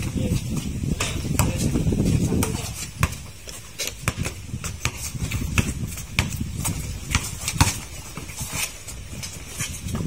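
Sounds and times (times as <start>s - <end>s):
basketball bouncing on concrete: 0.0s - 10.0s.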